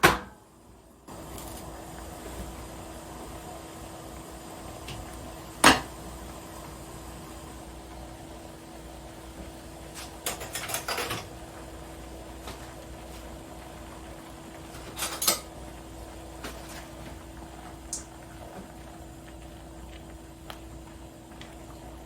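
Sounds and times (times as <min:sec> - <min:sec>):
steady low hum: 0:00.4 - 0:22.0.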